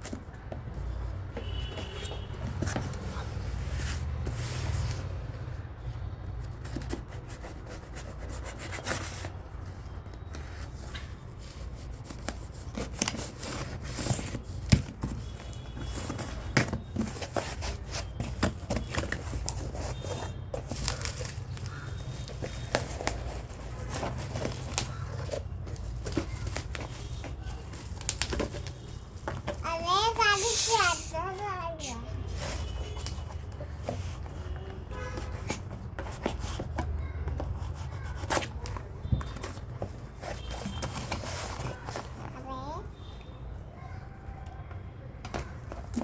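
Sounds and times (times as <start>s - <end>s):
packaging rustling and scraping: 0.0s - 5.5s, 6.3s - 42.4s.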